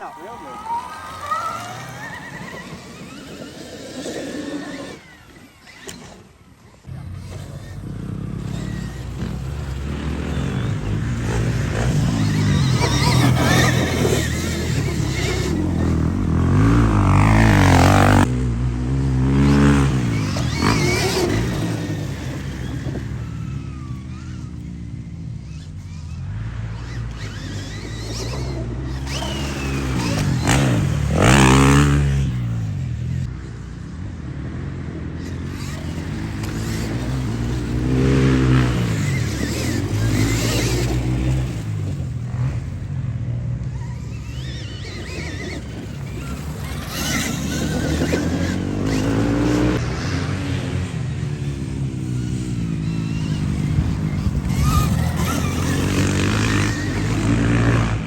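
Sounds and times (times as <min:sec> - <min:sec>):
electric dirt bike motor whine: 0:00.0 - 0:33.9, 0:34.9 - 0:58.0.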